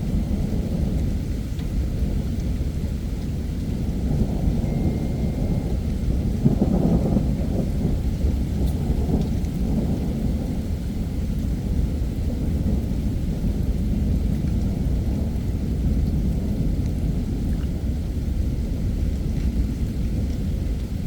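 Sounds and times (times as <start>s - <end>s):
heavy rain: 0.0s - 21.0s
low rumbling thunder: 0.0s - 21.0s.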